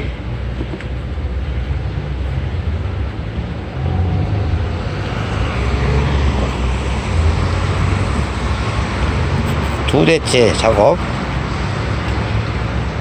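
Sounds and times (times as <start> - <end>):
large vehicle engine rumble: 0.0 - 13.0.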